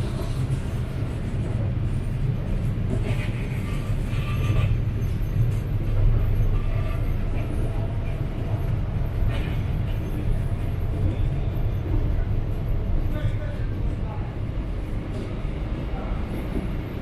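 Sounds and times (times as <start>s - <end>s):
train rumbling inside carriage: 0.0s - 17.0s.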